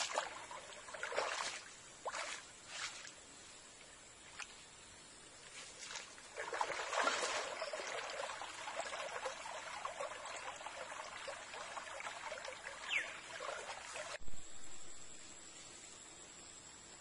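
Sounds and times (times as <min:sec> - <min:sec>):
stream water splashing and trickling: 0:00.0 - 0:14.4.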